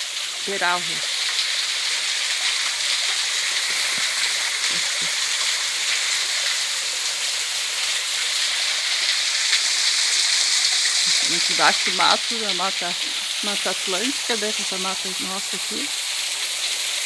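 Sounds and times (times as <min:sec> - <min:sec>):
waterfall rushing over rock: 0:00.0 - 0:17.0.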